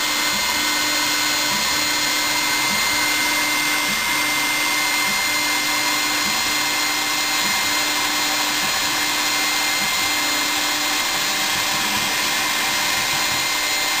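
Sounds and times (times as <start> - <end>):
milling machine cutting: 0.0 - 14.0.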